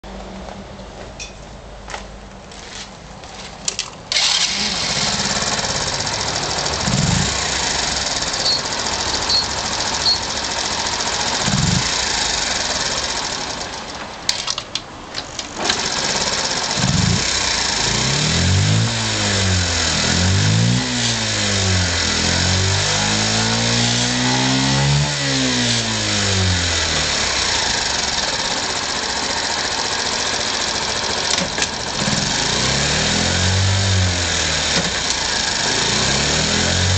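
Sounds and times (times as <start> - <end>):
motorcycle engine idling and revving: 4.1 - 36.9.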